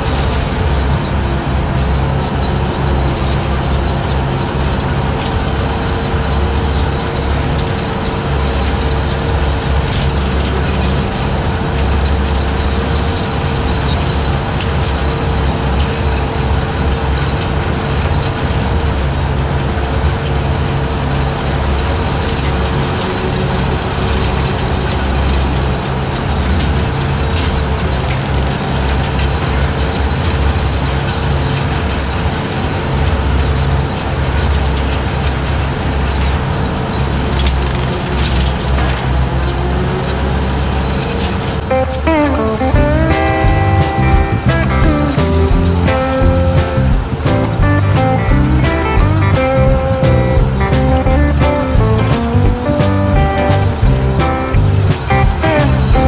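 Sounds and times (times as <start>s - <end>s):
engine droning: 0.0s - 56.0s
brush cutter whine: 1.2s - 31.6s, 35.3s - 56.0s.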